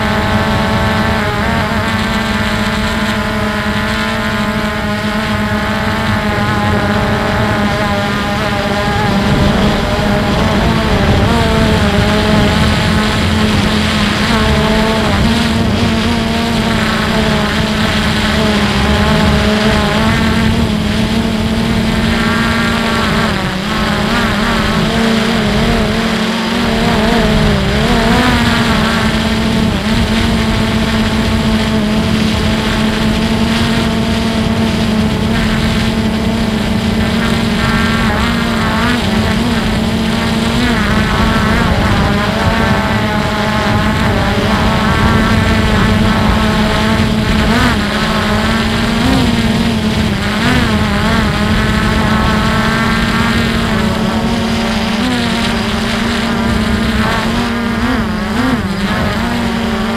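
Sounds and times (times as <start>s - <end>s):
drone motors whining: 0.0s - 59.9s
wind rumbling on microphone: 0.0s - 59.9s.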